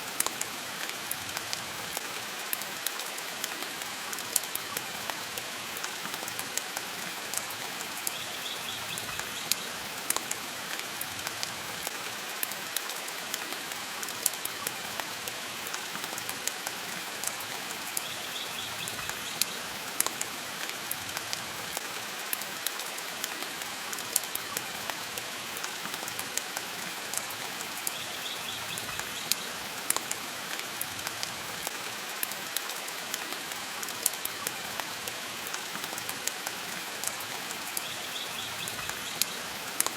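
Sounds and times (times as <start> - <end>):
rain hiss: 0.0 - 39.9.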